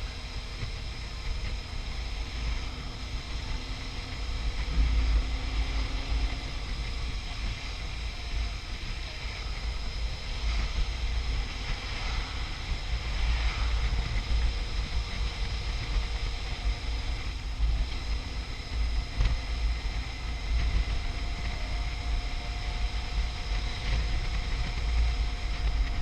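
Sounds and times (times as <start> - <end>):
motorcycle engine running: 0.0 - 26.0
road noise: 0.0 - 26.0.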